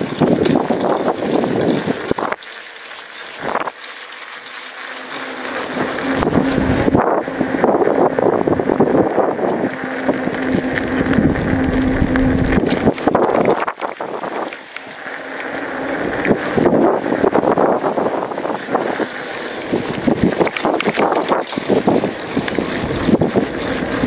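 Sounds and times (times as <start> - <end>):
wind buffeting microphone: 0.0 - 2.4, 5.6 - 14.6, 15.8 - 24.0
tyres rolling over concrete: 0.0 - 7.0, 9.6 - 24.0
steady low hum: 0.0 - 24.0.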